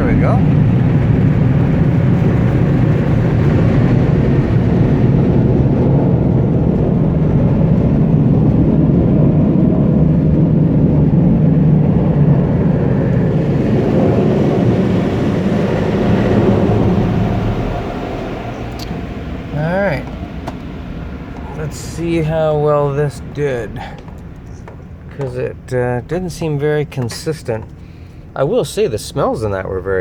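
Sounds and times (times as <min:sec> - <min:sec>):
car wash air dryer blowers: 0:00.0 - 0:29.6.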